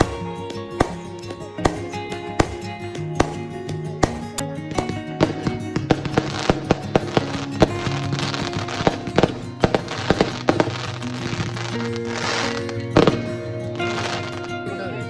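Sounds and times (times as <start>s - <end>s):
fireworks bangs and pops: 0.0s - 14.7s
background music: 0.0s - 15.0s.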